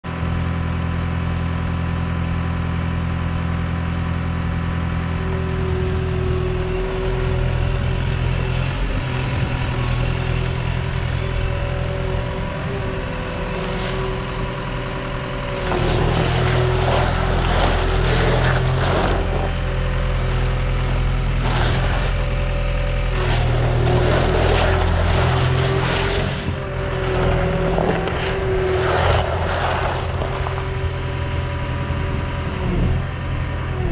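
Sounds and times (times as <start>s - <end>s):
diesel engine running and revving: 0.0s - 33.9s.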